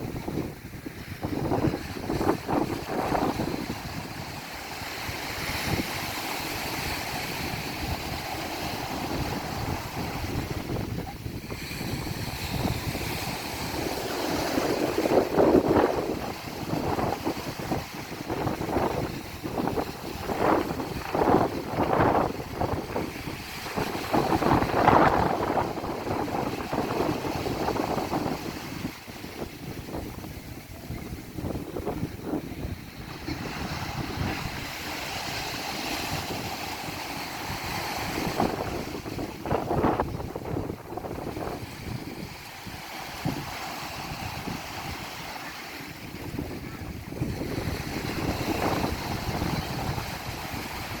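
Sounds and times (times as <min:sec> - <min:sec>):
ocean waves breaking: 0:00.0 - 0:51.0
wind buffeting microphone: 0:00.0 - 0:51.0.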